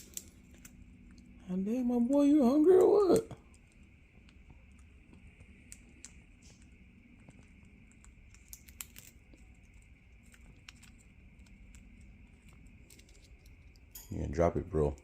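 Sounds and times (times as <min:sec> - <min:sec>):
parrot cracking and chewing peanut: 0:00.0 - 0:01.4, 0:02.0 - 0:15.0.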